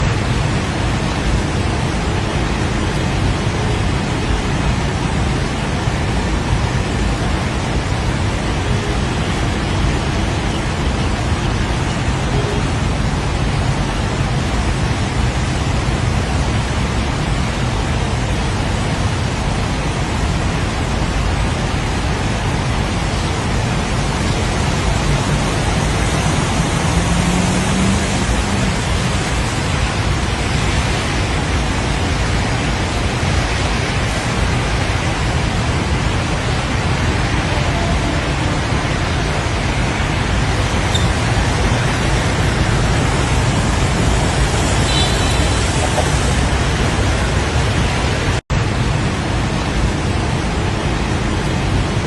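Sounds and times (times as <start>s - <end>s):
strong wind on microphone: 0.0s - 52.0s.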